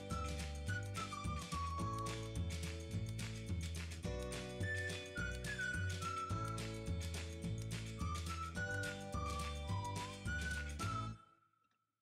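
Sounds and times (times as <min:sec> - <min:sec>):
background music with steady beat: 0:00.0 - 0:11.2.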